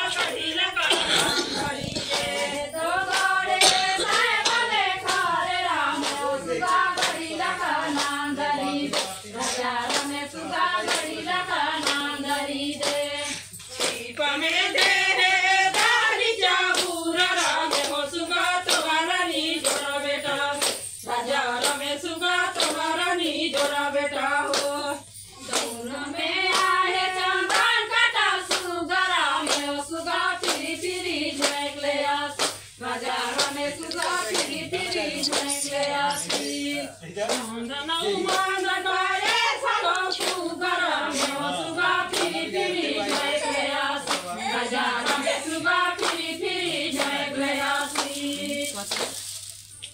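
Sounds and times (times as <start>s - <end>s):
women singing folk song: 0.0s - 49.2s
rhythmic hand claps: 0.0s - 49.9s.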